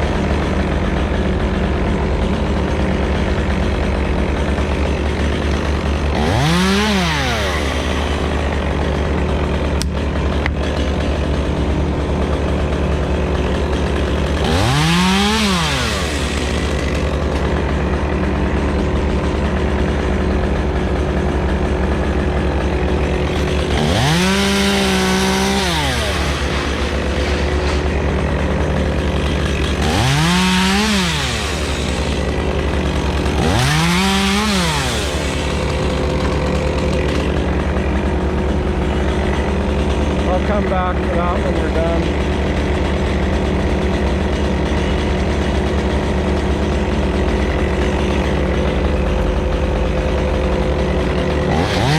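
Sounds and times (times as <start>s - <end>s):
chainsaw engine idling: 0.0s - 51.9s
chainsaw revving: 0.0s - 51.9s.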